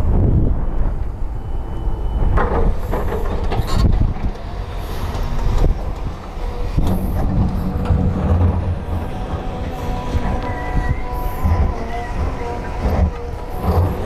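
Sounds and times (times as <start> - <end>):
excavator diesel engine under load: 0.4 - 14.0.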